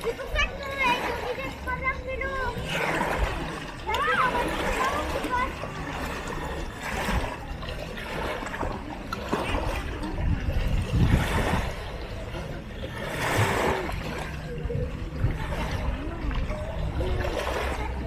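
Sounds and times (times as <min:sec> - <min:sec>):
faint voices of people: 0:00.0 - 0:18.0
small waves lapping: 0:00.0 - 0:18.0.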